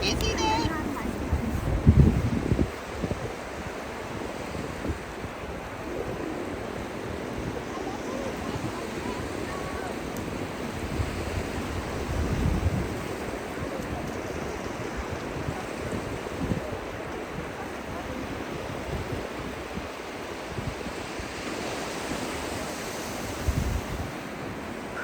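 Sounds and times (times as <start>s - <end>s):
ocean surf washing on beach: 0.0s - 25.0s
wind gusting on microphone: 0.0s - 25.0s.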